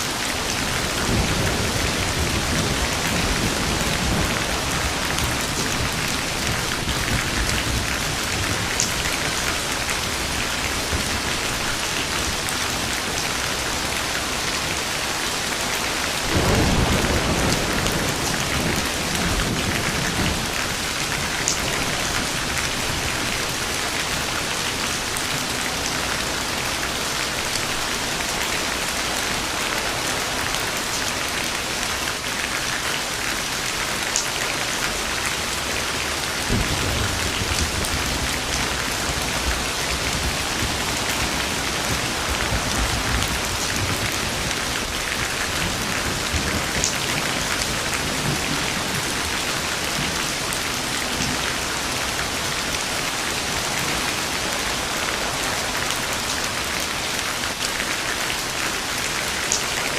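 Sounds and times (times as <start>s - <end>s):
heavy rain: 0.0s - 59.9s
thunder rumbling: 0.1s - 32.3s, 33.7s - 56.9s.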